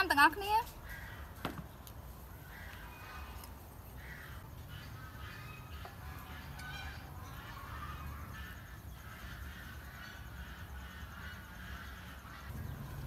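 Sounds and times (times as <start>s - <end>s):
faint birds calling: 0.0s - 13.0s.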